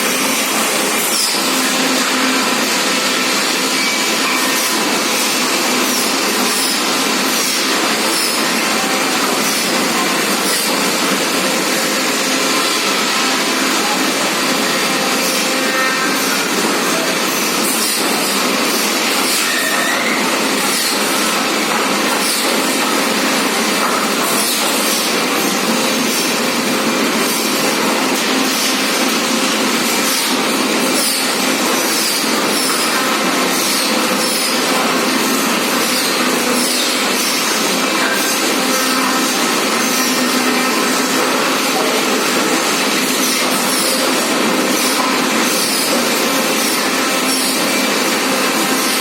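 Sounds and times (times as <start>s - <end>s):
machine engine running: 0.0s - 49.0s.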